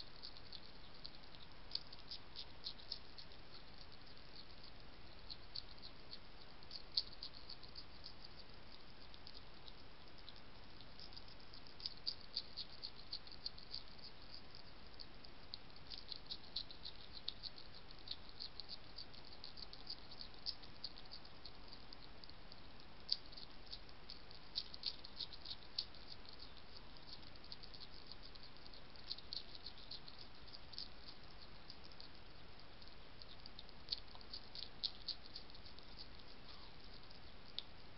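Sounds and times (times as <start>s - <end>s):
faint hiss: 0.0s - 37.9s
hedgehog chewing food: 0.0s - 37.9s.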